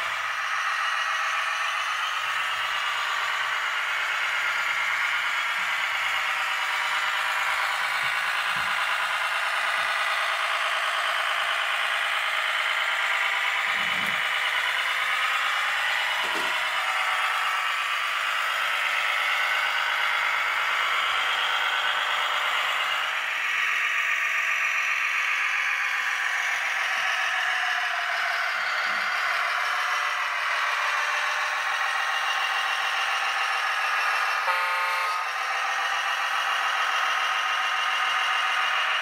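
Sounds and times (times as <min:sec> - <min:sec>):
toy truck motor running with rattle: 0:00.0 - 0:39.0.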